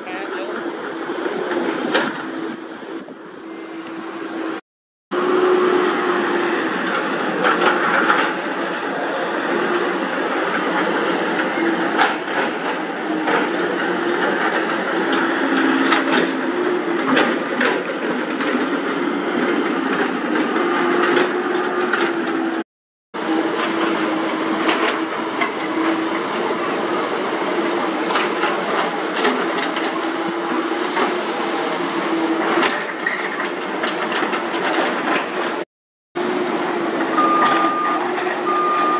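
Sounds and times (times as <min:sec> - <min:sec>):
excavator engine and hydraulic whine: 0:00.0 - 0:22.6, 0:23.2 - 0:35.6, 0:36.2 - 0:38.9.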